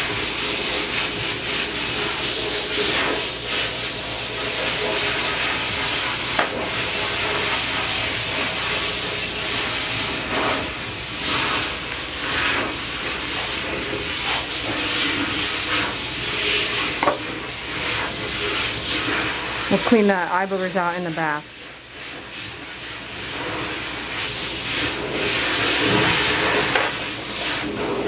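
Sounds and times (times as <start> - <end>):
steady hissing: 0.0 - 28.0.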